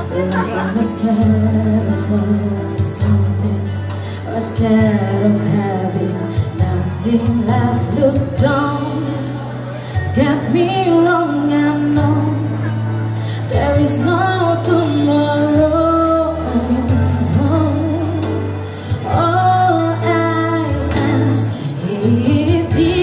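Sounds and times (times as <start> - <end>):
backing music with bass line: 0.0 - 23.0
person singing into a microphone: 0.0 - 23.0.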